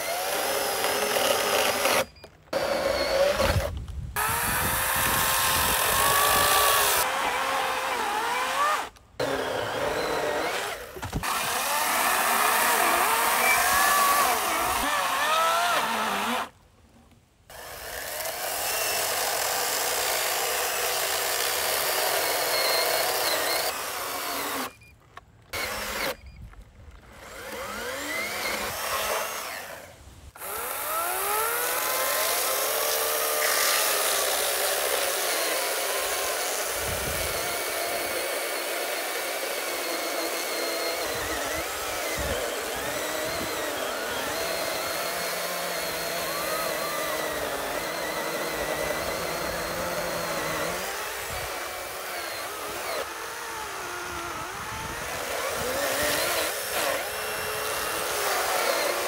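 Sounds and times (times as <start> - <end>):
electric chainsaw cutting logs: 0.0 - 16.6, 17.5 - 59.0.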